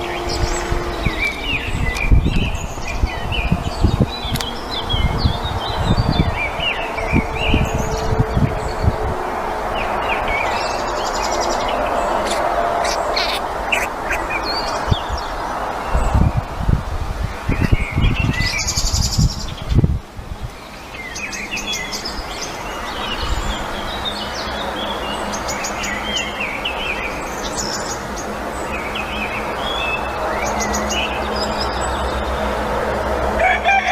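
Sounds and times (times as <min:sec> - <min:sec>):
small birds chirping and trilling: 0:00.0 - 0:33.9.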